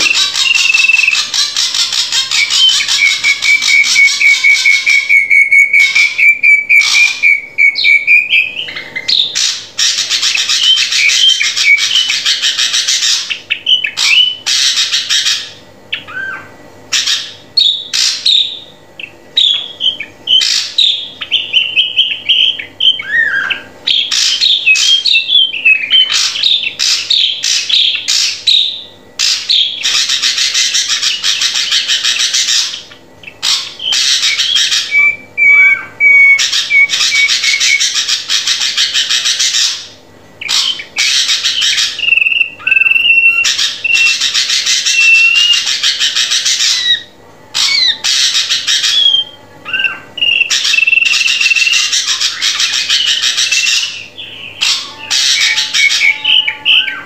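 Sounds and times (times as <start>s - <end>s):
bird whistled notes: 0.0s - 15.4s, 16.0s - 39.8s, 40.4s - 57.0s
bird harsh chatter: 0.0s - 57.0s.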